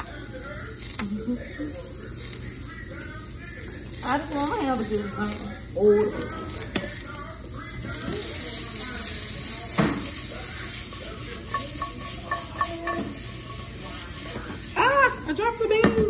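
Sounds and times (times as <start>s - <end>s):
food sizzling in a frying pan: 0.0s - 16.0s
utensil scraping in a pan: 1.8s - 16.0s.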